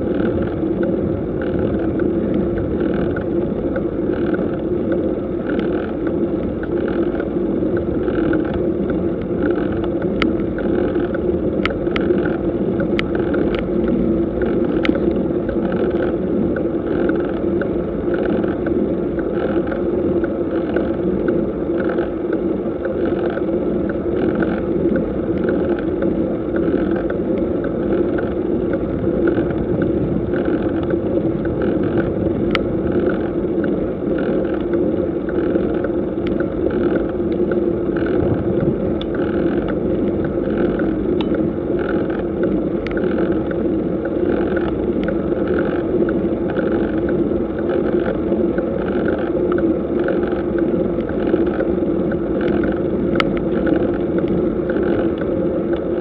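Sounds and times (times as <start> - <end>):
bicycle ride noise: 0.0 - 56.0.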